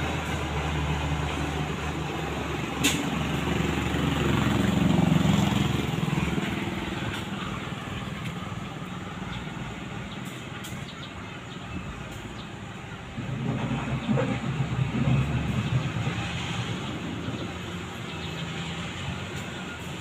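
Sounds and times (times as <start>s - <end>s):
train wagons rumbling on rails: 0.0s - 20.0s.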